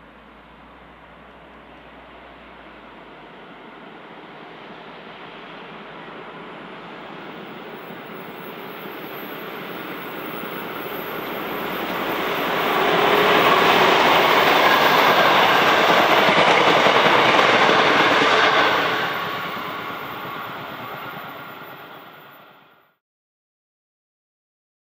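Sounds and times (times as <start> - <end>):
diesel locomotive passing: 0.0 - 23.0
train wheels on rails: 0.4 - 22.8.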